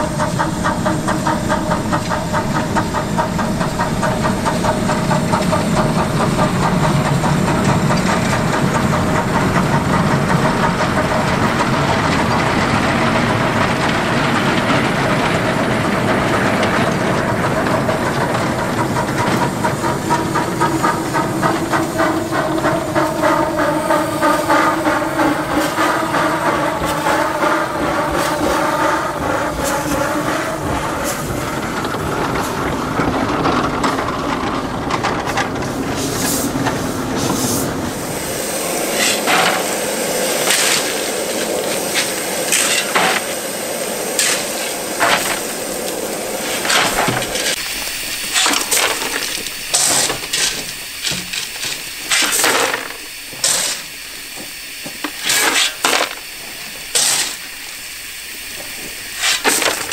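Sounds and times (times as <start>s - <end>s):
steam hissing bursts: 0.0s - 34.6s, 35.2s - 59.9s
steam locomotive rumbling: 0.0s - 59.9s.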